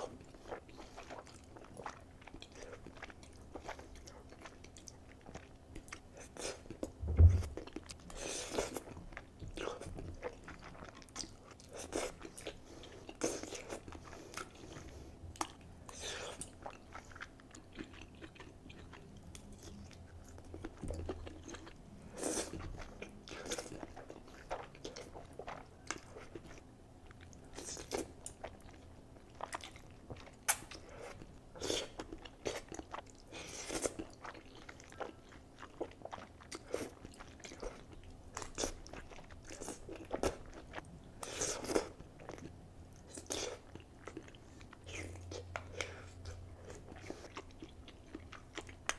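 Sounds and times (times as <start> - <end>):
person chewing noodles: 0.0 - 48.9.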